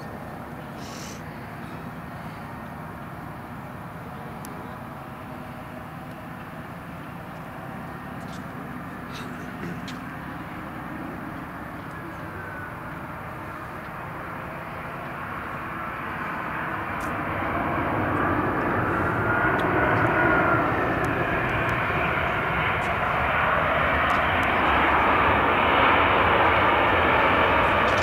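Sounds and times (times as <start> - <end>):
faint whine: 0.0 - 28.0
jet engine roar: 0.0 - 28.0.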